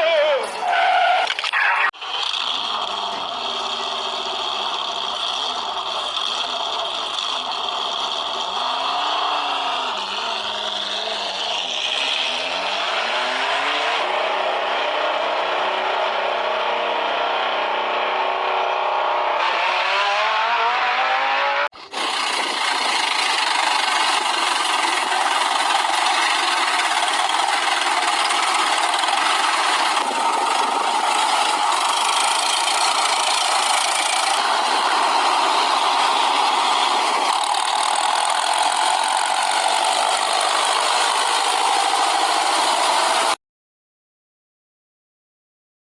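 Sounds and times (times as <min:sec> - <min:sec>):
vehicle engine revving: 0:01.9 - 0:43.4.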